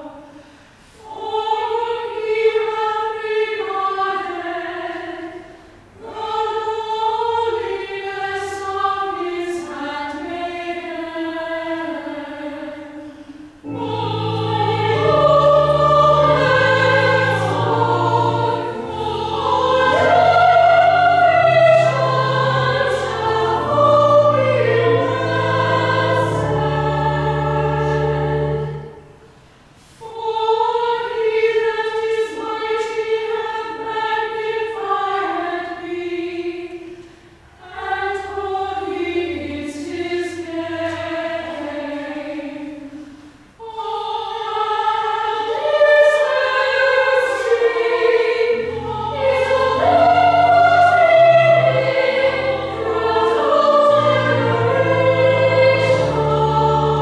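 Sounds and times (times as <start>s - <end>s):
church choir singing: 0.0s - 57.0s.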